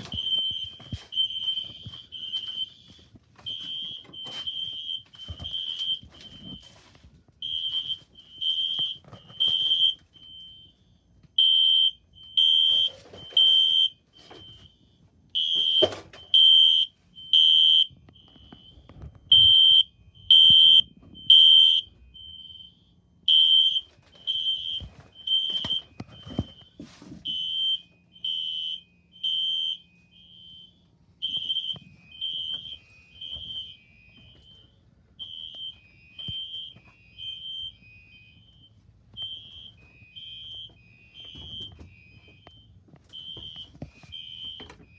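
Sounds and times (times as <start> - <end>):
fire alarm horn beeps: 0.0 - 10.8, 11.4 - 44.9.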